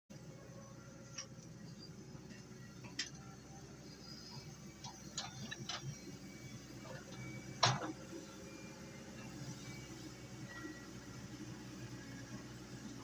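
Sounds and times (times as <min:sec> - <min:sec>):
excavator engine running: 0:00.2 - 0:13.0.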